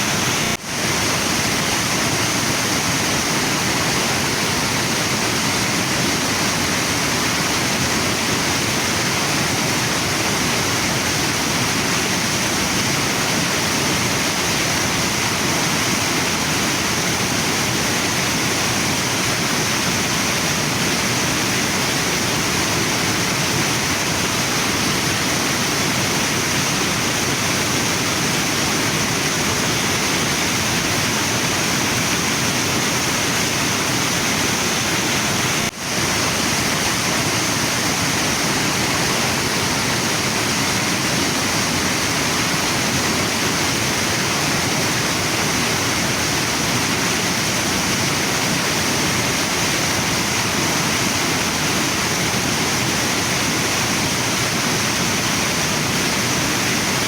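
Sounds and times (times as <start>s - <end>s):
waterfall and river roaring: 0.0s - 57.0s.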